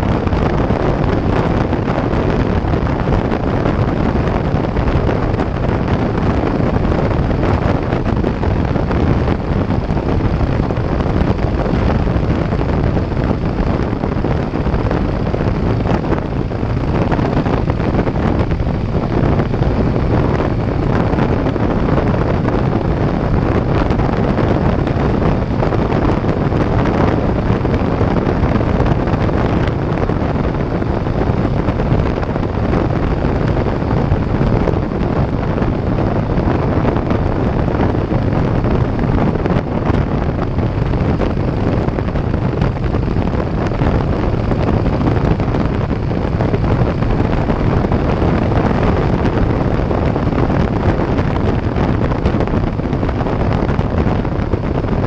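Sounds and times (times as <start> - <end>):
motorcycle running: 0.0 - 55.0
wind roar on microphone: 0.0 - 55.0.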